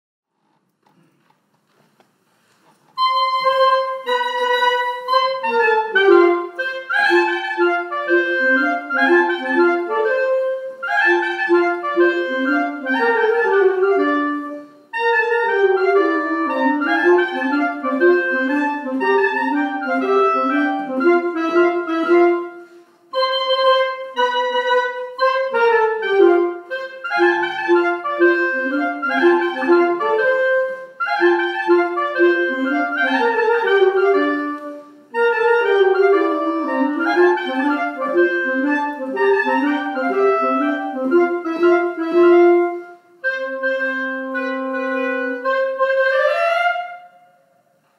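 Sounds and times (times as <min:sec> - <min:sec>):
small ensemble playing concert music: 0:03.0 - 0:47.0.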